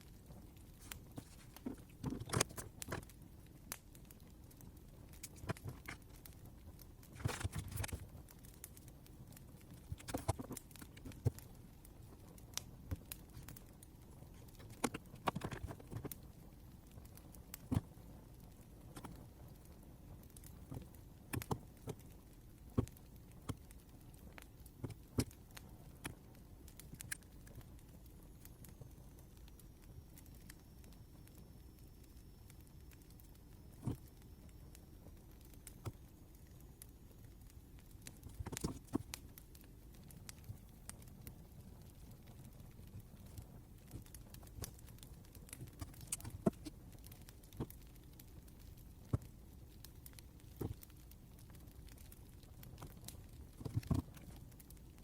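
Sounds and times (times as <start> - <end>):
faint steady hiss: 0.0 - 55.0
small crackles and clicks: 0.0 - 55.0.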